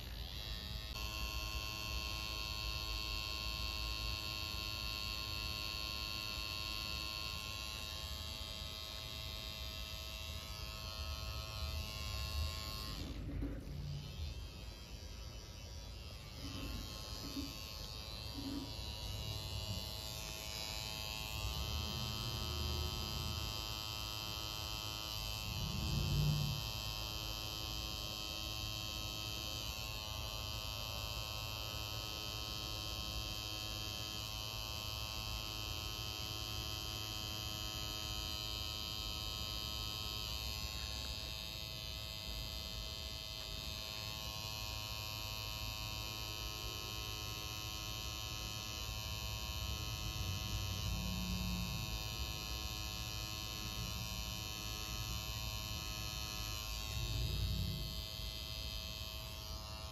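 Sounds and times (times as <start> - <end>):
tattoo machine buzzing: 0.0 - 59.9.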